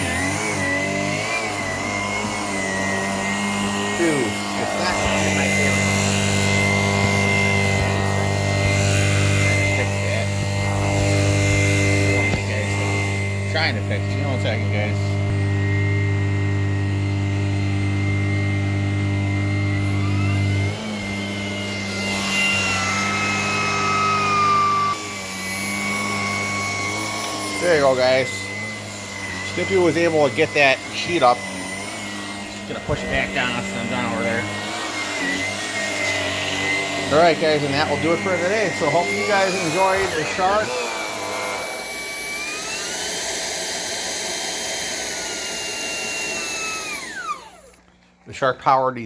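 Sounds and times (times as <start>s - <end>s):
vacuum cleaner whining hum: 0.0s - 48.3s.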